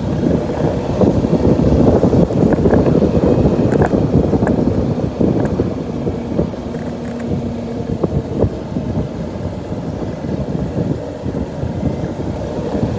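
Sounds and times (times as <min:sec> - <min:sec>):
motorcycle engine rumble: 0:00.0 - 0:12.9
wind buffeting microphone: 0:00.0 - 0:12.9.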